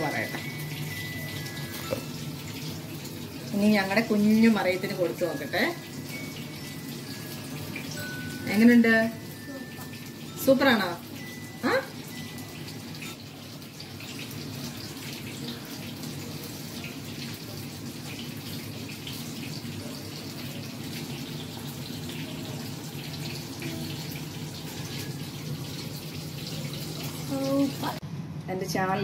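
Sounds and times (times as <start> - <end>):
running water from a tap: 0.0 - 28.0.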